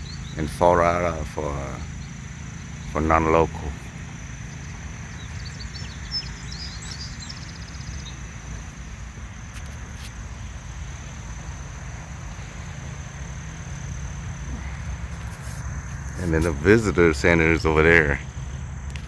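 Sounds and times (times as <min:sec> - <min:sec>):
songbird chirping and trilling: 0:00.0 - 0:18.2
high insect drone: 0:00.0 - 0:19.0
low outdoor rumble: 0:00.0 - 0:19.0.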